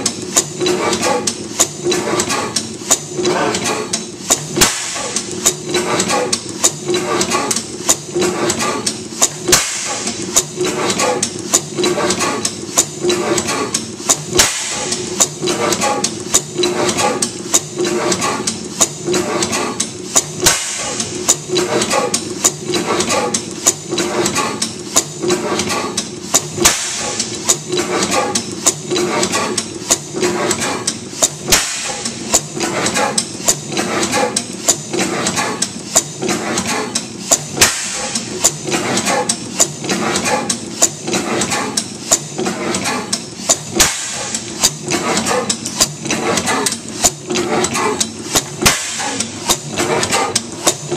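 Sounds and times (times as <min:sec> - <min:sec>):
gas engine clattering: 0:00.0 - 0:50.9
igniter sharp clacks: 0:00.0 - 0:50.9.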